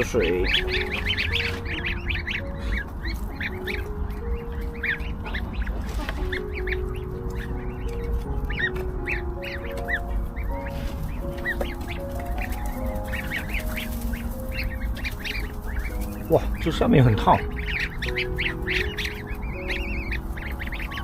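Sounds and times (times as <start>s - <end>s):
goslings peeping: 0.0s - 21.0s.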